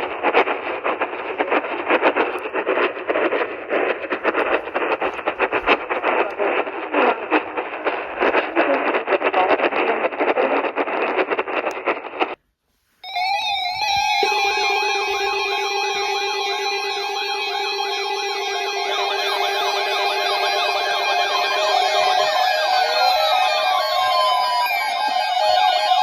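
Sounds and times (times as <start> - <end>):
radio static hiss and crackle: 0.0 - 26.0.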